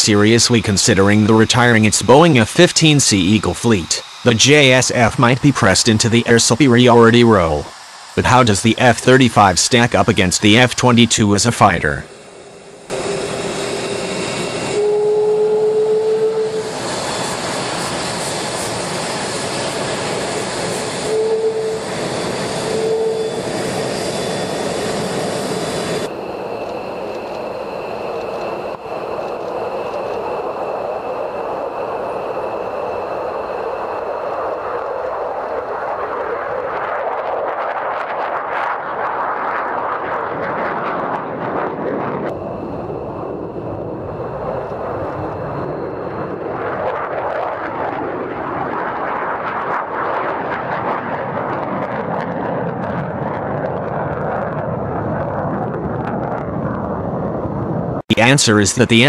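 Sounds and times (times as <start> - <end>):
distant jet rumble: 0.0 - 59.0
jet engines whining: 0.0 - 59.0.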